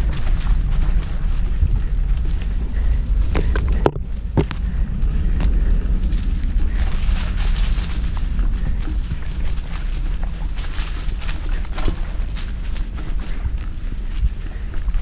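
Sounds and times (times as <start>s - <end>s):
bike rattling over ground: 0.0s - 15.0s
wind rumbling on microphone: 0.0s - 15.0s.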